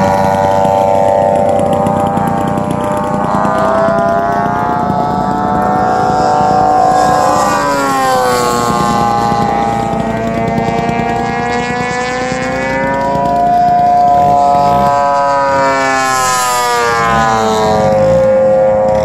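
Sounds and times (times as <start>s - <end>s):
model airplane engines droning: 0.0s - 19.0s.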